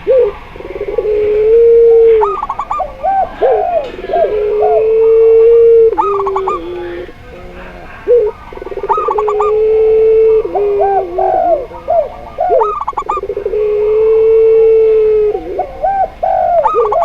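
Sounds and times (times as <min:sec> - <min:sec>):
doves cooing: 0:00.0 - 0:17.0
stuttering high-pitched dove notes: 0:00.0 - 0:17.0.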